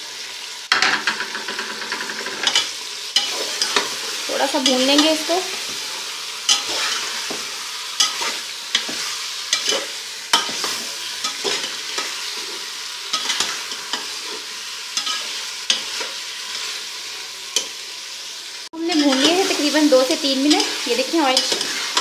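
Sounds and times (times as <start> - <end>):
vegetables sizzling in oil: 0.0 - 22.0
utensil scraping pan: 0.7 - 16.8, 18.8 - 22.0.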